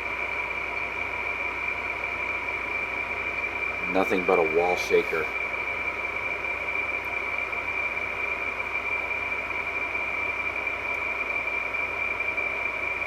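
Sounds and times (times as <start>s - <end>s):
air conditioner running with whine: 0.0s - 13.0s.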